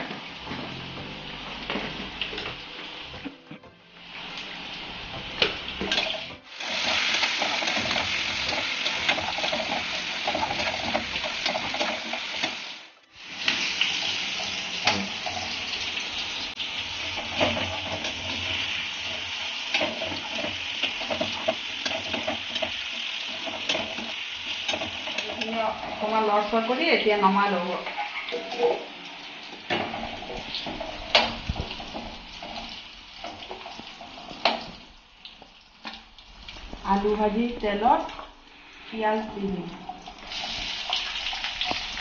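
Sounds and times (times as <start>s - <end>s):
potatoes sizzling in hot oil: 3.9s - 42.0s.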